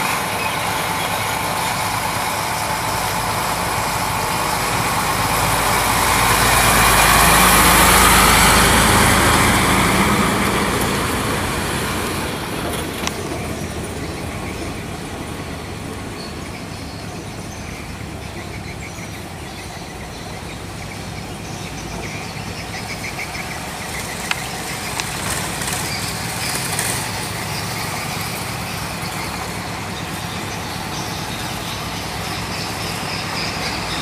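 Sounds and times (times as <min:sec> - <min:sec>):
truck diesel engine hum: 0:00.0 - 0:34.0.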